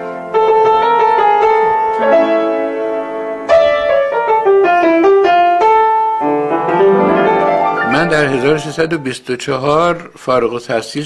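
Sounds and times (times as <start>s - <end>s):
piano playing slowly: 0.0s - 10.1s.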